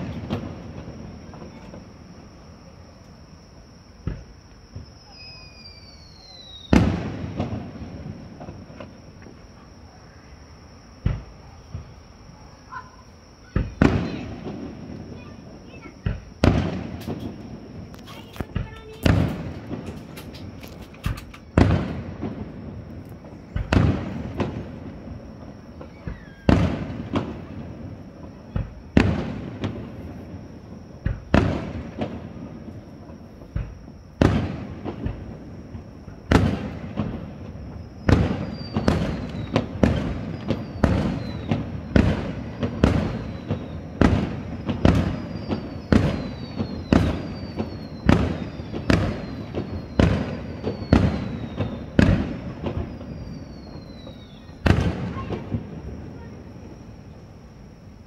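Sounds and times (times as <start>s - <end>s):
firework shells booming: 0.0s - 2.4s, 3.9s - 9.7s, 11.0s - 12.1s, 12.7s - 56.4s.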